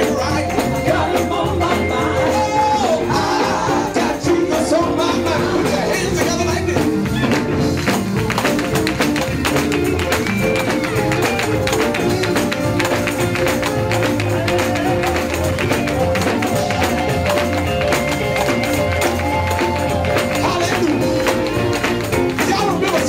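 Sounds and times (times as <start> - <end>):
voices singing: 0.0 - 7.6, 11.9 - 23.0
held chords: 0.0 - 23.0
rapid percussion strokes: 0.0 - 23.0.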